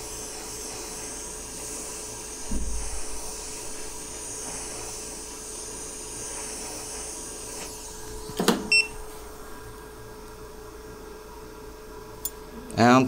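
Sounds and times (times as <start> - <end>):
hot-air station hissing: 0.0 - 13.0.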